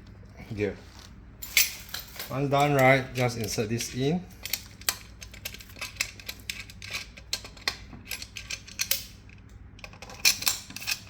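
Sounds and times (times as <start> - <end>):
metallic clicks and rattles: 1.4 - 11.0.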